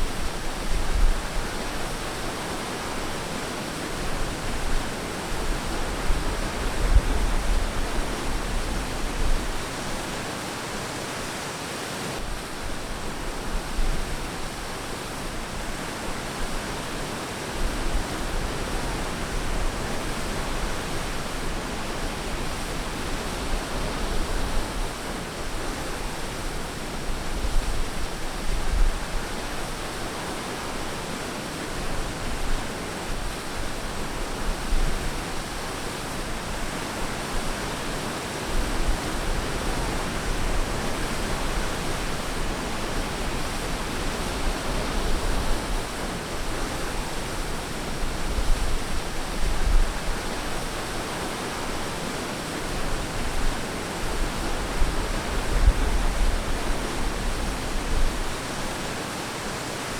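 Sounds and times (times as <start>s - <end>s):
ocean surf on a beach: 0.0s - 59.9s.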